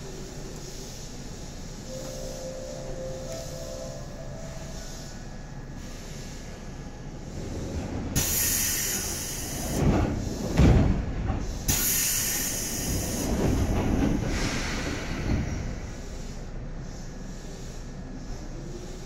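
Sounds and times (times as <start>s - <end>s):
train air hiss: 0.0s - 10.6s, 11.4s - 19.0s.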